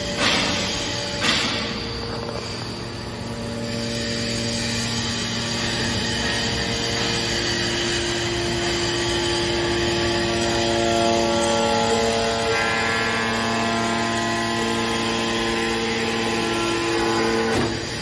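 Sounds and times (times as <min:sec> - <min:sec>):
hydraulic pump motor hum and whine: 0:00.0 - 0:18.0.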